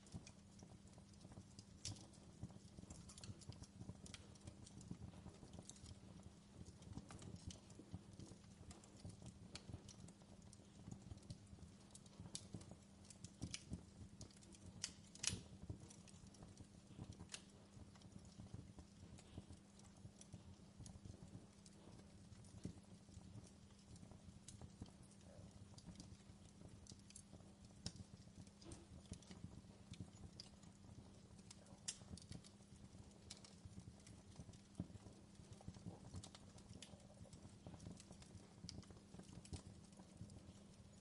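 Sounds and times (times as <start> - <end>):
fireplace crackling: 0.0 - 41.0.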